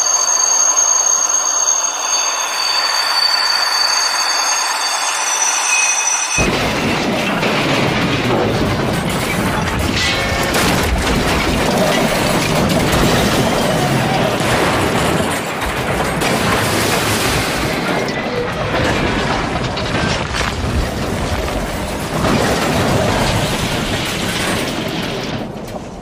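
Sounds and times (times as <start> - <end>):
train cars crashing and grinding: 0.0 - 26.0.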